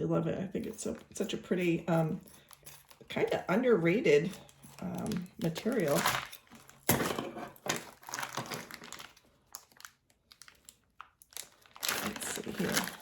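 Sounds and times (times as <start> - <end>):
plastic bag crinkling: 0.6 - 13.0.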